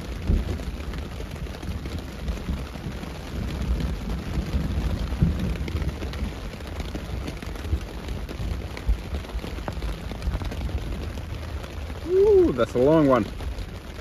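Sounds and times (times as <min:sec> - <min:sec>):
heavy rain on tent fabric: 0:00.0 - 0:14.0
thunder rumbling: 0:00.0 - 0:14.0.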